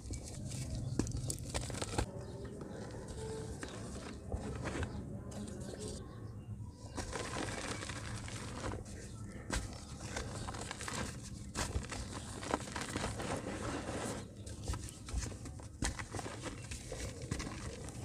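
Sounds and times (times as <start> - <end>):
dry mud crumbling and crackling: 0.0 - 6.0, 6.8 - 18.0.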